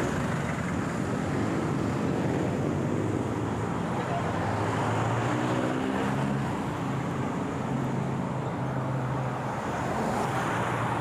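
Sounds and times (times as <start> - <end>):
street traffic engine hum: 0.0 - 11.0.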